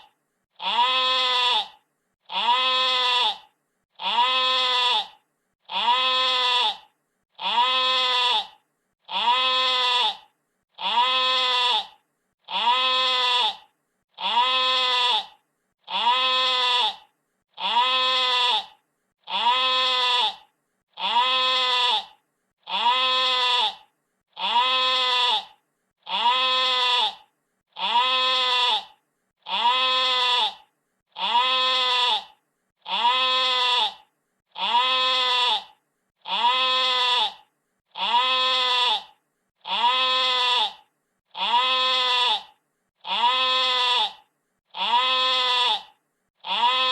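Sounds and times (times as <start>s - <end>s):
sheep bleating: 0.6s - 46.9s.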